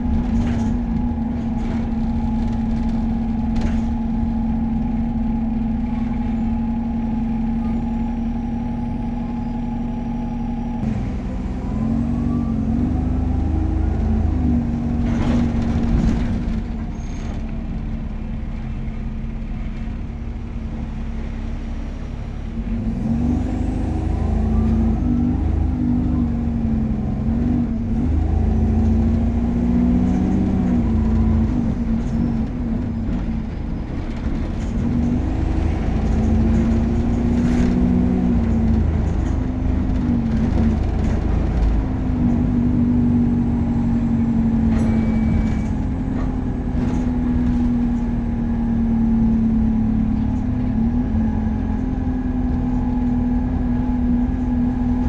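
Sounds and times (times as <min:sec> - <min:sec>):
bus engine accelerating: 0:00.0 - 0:55.0
road rumble: 0:00.0 - 0:55.0.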